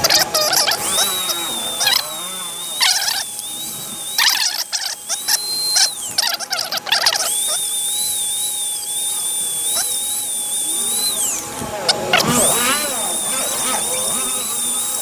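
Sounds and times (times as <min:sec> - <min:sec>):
electric grinder motor whine: 0:00.0 - 0:15.0
grinding on metal: 0:00.0 - 0:15.0.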